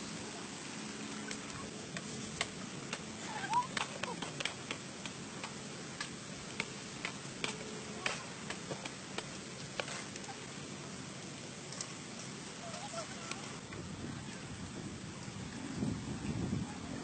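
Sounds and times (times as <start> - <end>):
low hiss: 0.0 - 17.0.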